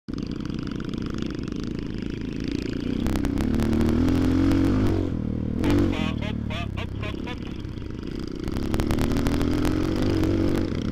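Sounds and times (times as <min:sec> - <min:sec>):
dirt bike engine revving: 0:00.2 - 0:10.9.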